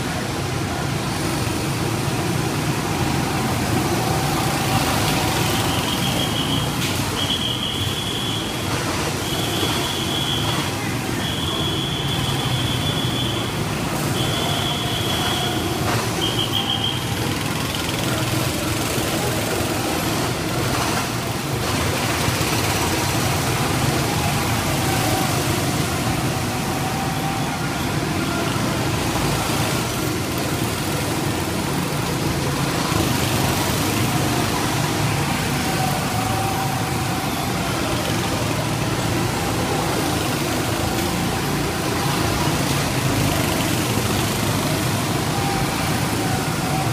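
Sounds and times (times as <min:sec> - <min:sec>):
go-kart engines droning: 0:00.0 - 0:46.9.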